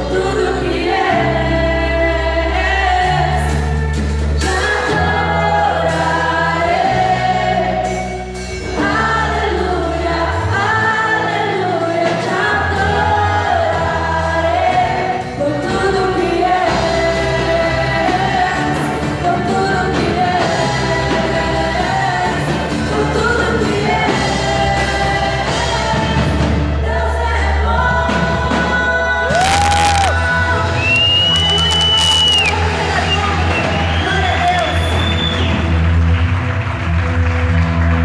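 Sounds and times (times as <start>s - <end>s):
band playing: 0.0s - 27.0s, 28.1s - 38.0s
gospel singers: 0.0s - 35.8s
drums: 0.0s - 38.0s.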